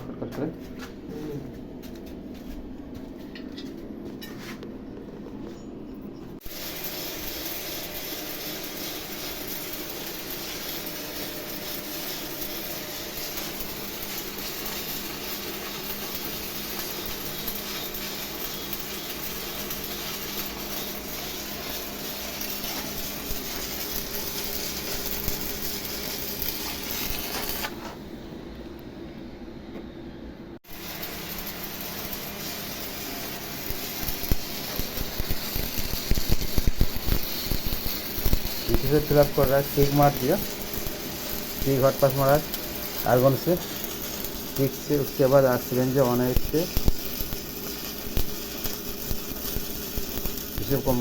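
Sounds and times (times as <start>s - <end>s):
faint welding machine hum: 0.0s - 51.0s
welding arc crackling sizzle: 6.4s - 28.1s, 30.6s - 51.0s.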